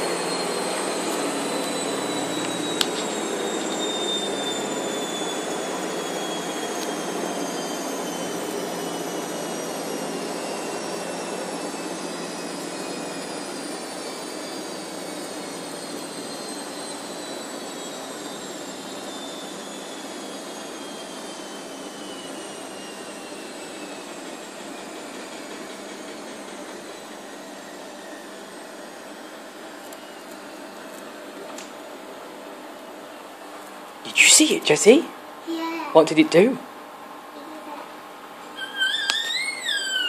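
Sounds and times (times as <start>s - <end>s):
motor whines falling in pitch: 0.0s - 33.4s, 34.1s - 35.1s, 38.4s - 40.0s
washing machine spin cycle: 0.0s - 40.0s.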